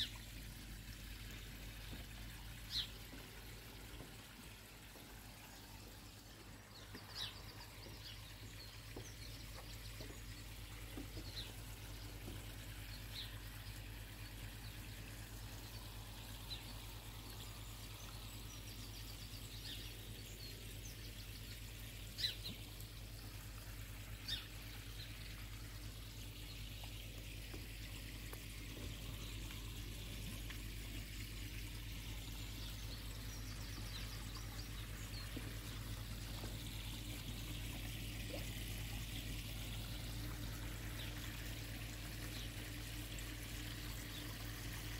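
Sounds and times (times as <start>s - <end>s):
water pouring into pond: 0.0s - 44.9s.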